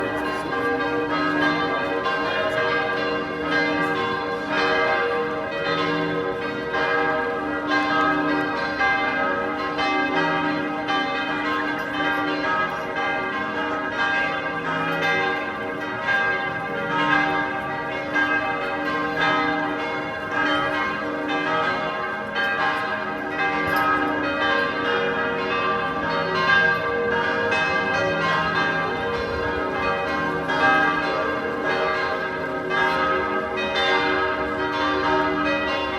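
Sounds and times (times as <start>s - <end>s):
church bells pealing: 0.0s - 35.9s.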